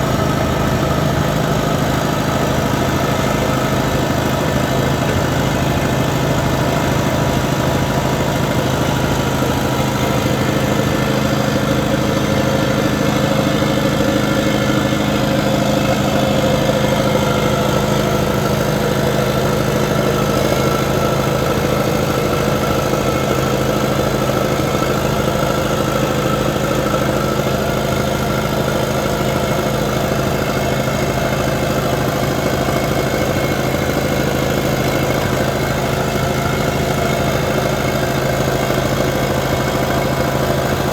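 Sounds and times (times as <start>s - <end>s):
loader engine running: 0.0s - 40.9s.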